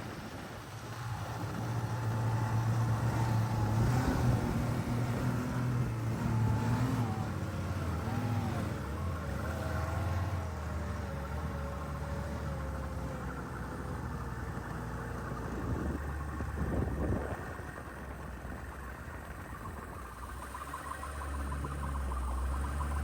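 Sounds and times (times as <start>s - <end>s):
snowmobile engine running: 0.0s - 23.0s.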